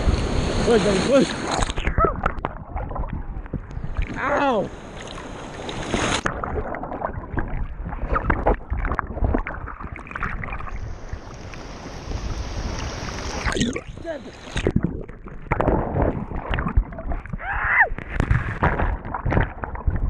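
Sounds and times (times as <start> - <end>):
sea water sloshing and splashing: 0.0 - 20.0.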